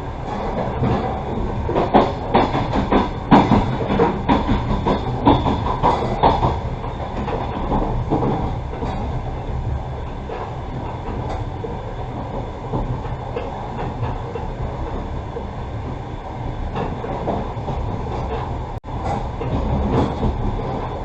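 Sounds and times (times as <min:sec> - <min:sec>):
train carriage rumble: 0:00.0 - 0:21.0
wheels clanking over track: 0:00.0 - 0:21.0.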